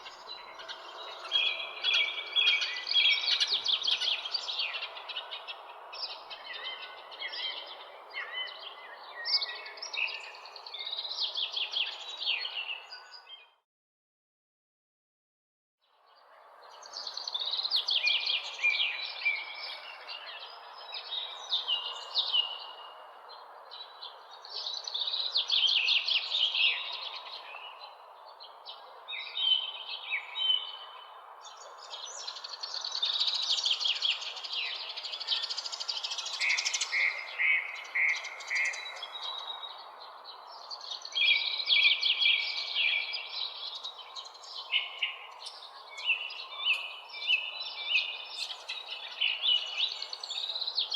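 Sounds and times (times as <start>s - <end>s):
songbirds chirping and trilling: 0.0s - 13.6s, 15.8s - 50.9s.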